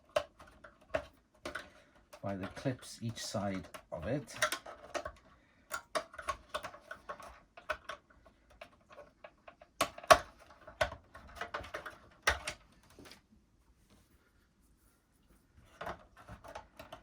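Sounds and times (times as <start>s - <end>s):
plastic parts clicking and knocking: 0.0s - 13.2s, 15.6s - 17.0s.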